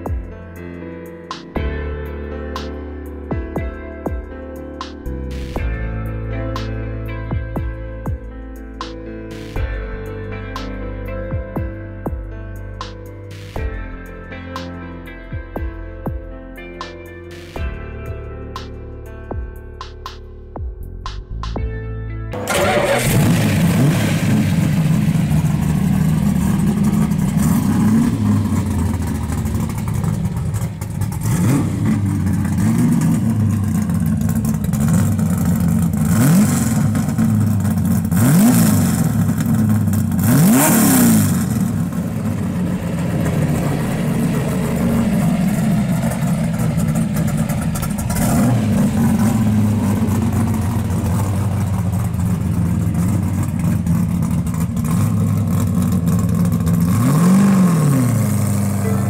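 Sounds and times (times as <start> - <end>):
car engine idling and revving: 0.0 - 15.1, 16.1 - 59.0.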